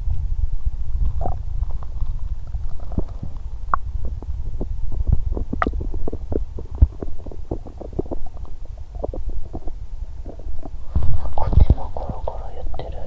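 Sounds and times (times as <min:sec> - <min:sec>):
stomach gurgling and rumbling: 0:00.0 - 0:13.0.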